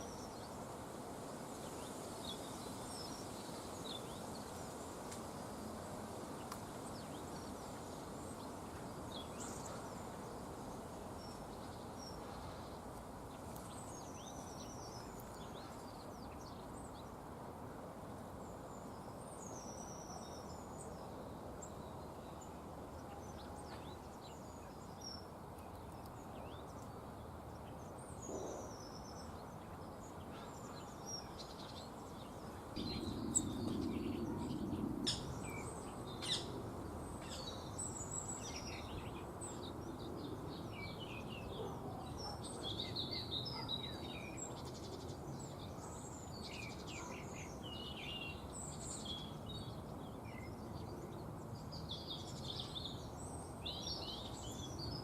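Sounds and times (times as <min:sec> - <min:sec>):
small birds chirping: 0:00.0 - 0:17.3, 0:18.4 - 0:55.0.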